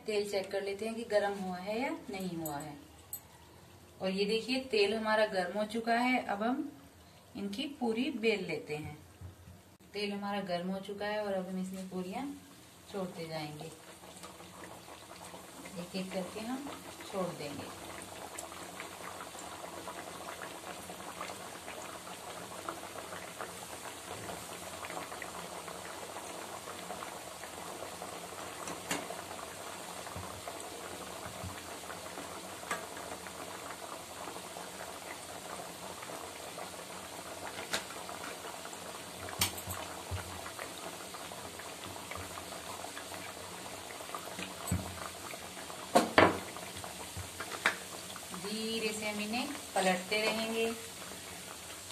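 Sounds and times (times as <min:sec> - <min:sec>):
dough deep-frying in oil: 0:09.7 - 0:51.9.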